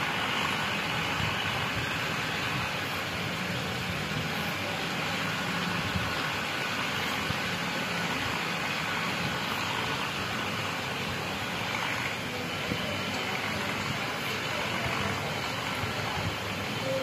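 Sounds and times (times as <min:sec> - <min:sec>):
continuous hiss: 0:00.0 - 0:17.0
distant tractor engine drone: 0:00.0 - 0:17.0.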